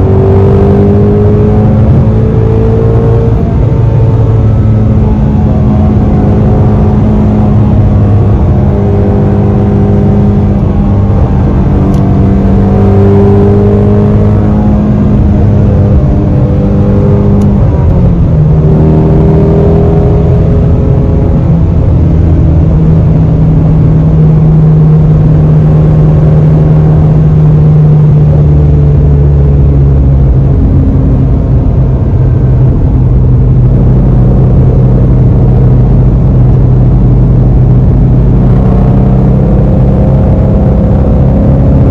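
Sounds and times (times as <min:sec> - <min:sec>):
car engine running loud: 0:00.0 - 0:41.9.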